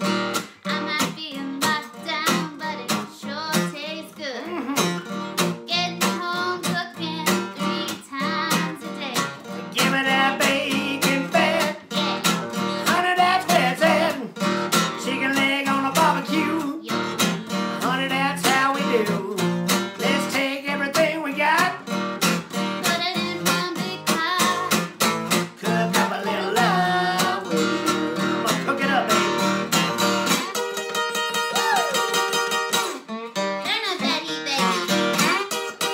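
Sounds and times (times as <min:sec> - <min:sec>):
acoustic guitar strumming: 0:00.0 - 0:35.9
man and woman singing: 0:00.4 - 0:22.0, 0:22.8 - 0:30.4.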